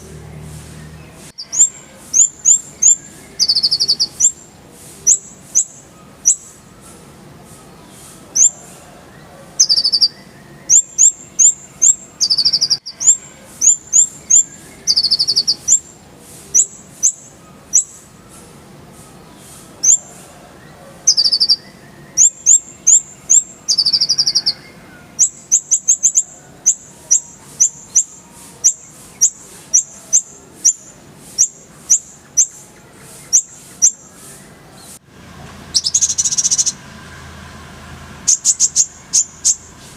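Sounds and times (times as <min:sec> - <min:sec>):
bird singing chips and trills: 0:00.0 - 0:08.7, 0:09.6 - 0:20.2, 0:21.1 - 0:35.0, 0:35.7 - 0:36.8, 0:38.2 - 0:39.7.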